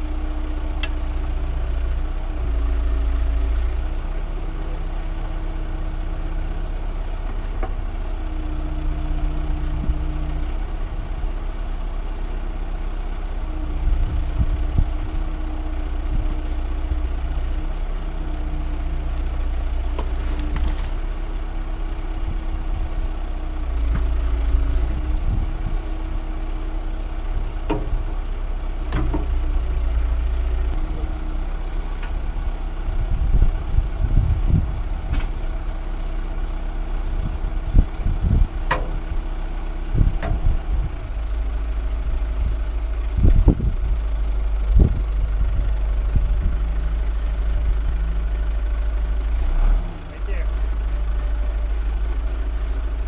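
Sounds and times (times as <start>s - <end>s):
heavy farm machinery engine running: 0.0s - 53.0s.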